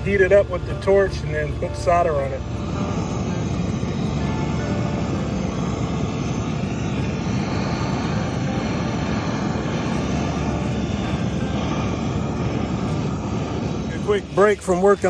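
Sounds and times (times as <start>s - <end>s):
soldering torch roaring: 1.6s - 15.0s.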